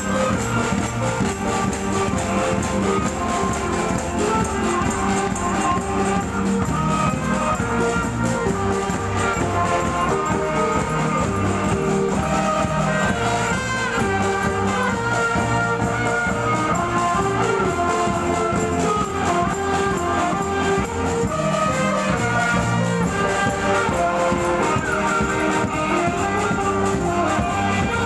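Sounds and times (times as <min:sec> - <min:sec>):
brass band playing: 0:00.0 - 0:28.0
percussion beat: 0:00.0 - 0:28.0.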